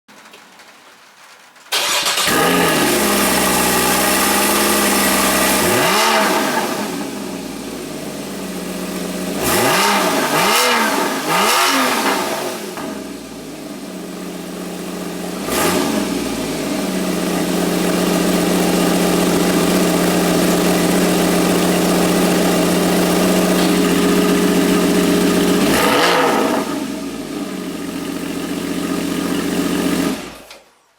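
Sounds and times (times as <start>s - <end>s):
car engine idling and revving: 1.7s - 30.5s.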